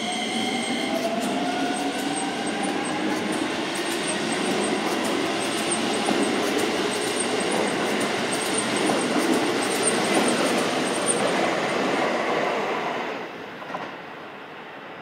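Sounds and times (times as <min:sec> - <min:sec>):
electric train rolling past: 0:00.0 - 0:15.0.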